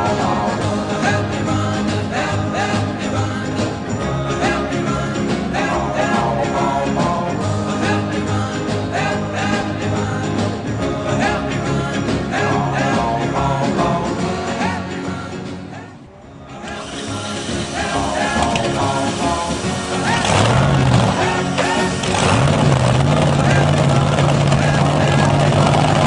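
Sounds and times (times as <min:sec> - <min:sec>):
upbeat rock and roll song: 0:00.0 - 0:26.0.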